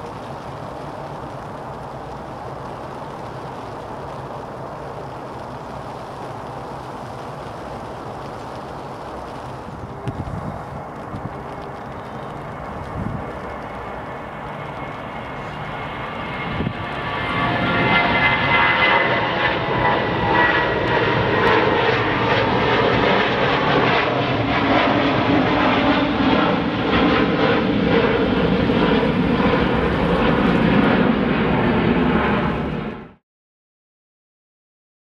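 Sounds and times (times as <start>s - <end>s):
jet engine roar: 0.0s - 33.2s.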